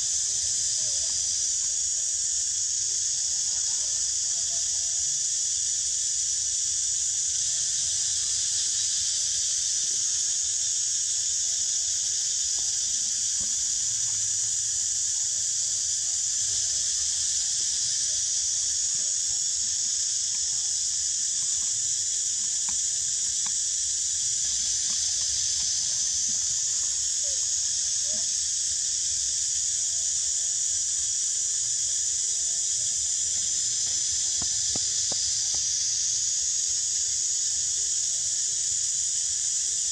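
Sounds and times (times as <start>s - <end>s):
insect chorus hissing: 0.0s - 39.9s.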